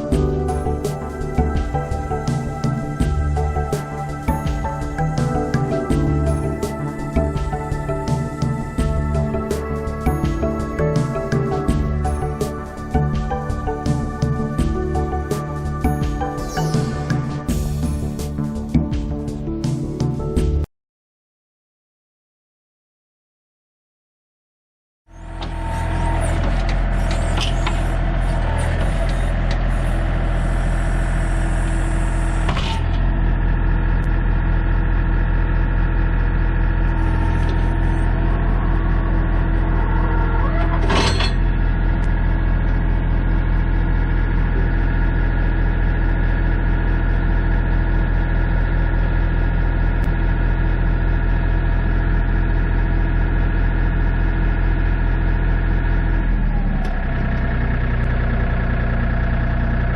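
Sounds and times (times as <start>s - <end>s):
tractor diesel engine running: 0.0s - 19.8s, 25.1s - 59.9s.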